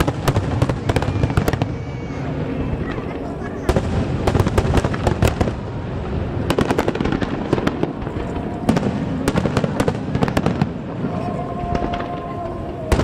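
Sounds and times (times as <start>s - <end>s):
fireworks crackling reports: 0.0s - 13.0s.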